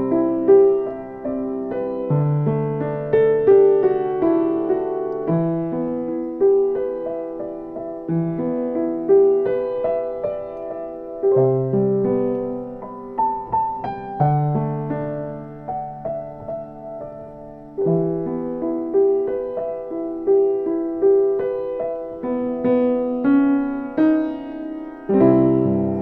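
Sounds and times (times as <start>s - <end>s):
slow improvised piano music: 0.0s - 26.0s.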